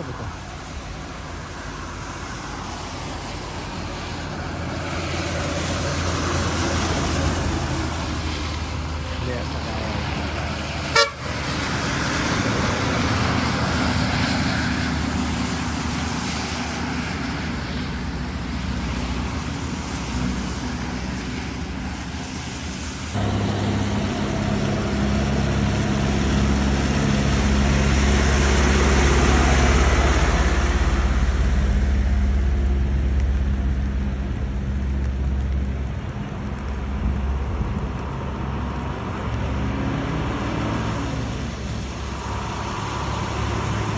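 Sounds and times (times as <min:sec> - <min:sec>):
bus diesel engines running: 0:00.0 - 0:43.9
low engine drone: 0:00.0 - 0:43.9
rain: 0:00.0 - 0:43.9
traffic noise: 0:00.0 - 0:43.9.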